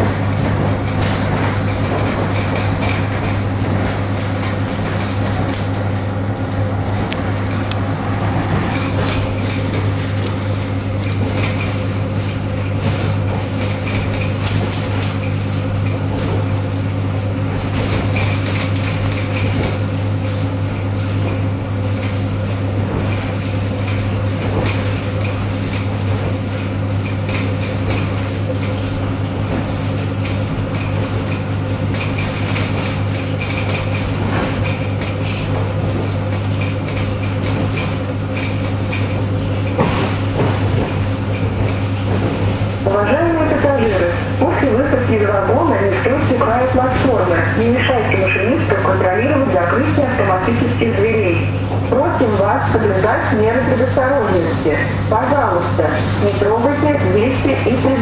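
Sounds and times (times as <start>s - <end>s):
rattling and clicking of train car: 0.0s - 58.0s
train interior low hum: 0.0s - 58.0s.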